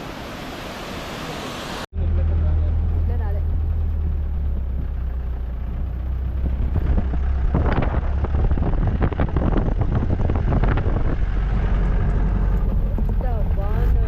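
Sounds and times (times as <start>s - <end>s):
vehicle engine rumble: 1.9s - 14.0s.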